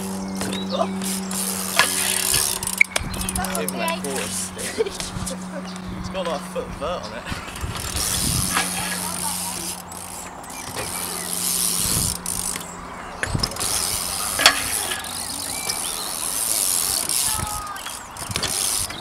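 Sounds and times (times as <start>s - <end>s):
bike rolling on concrete: 0.0s - 19.0s.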